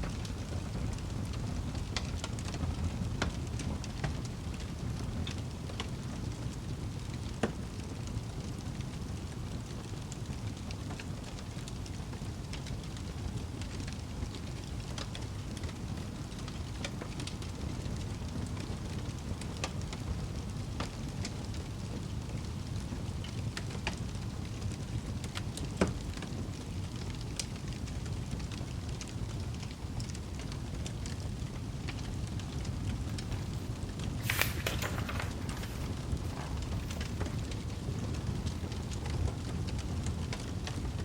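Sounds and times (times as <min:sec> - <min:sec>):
fireplace crackling and popping: 0:00.0 - 0:41.0.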